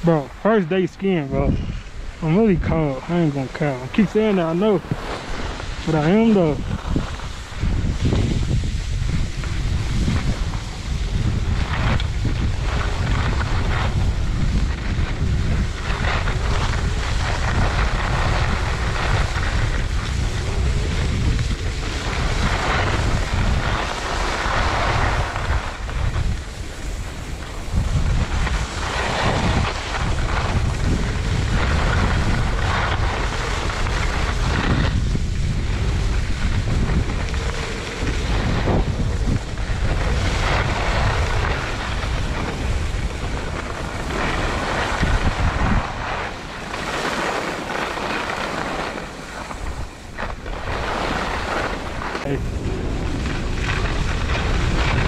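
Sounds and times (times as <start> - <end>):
skis sliding over snow: 0.0 - 55.0
wind buffeting microphone: 0.0 - 55.0.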